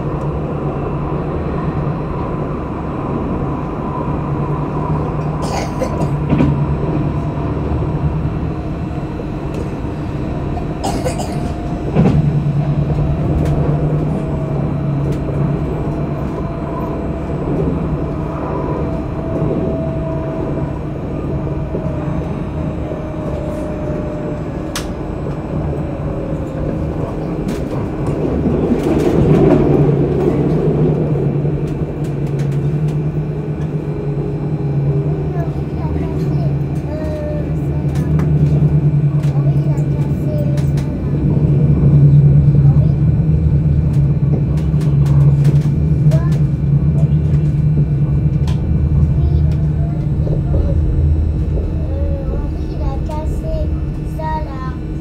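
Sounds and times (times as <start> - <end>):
tram rumbling along track: 0.0 - 55.0.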